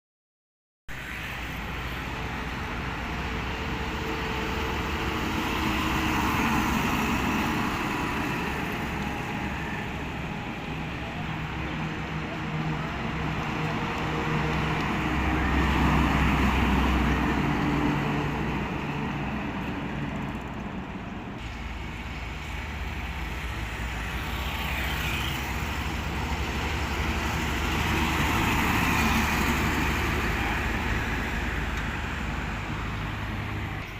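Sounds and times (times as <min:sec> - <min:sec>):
road traffic noise: 0:00.9 - 0:33.9.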